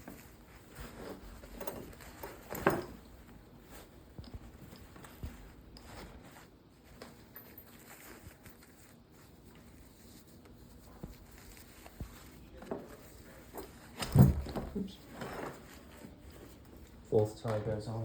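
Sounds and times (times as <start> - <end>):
light handling taps and rustles: 0.0 - 18.0.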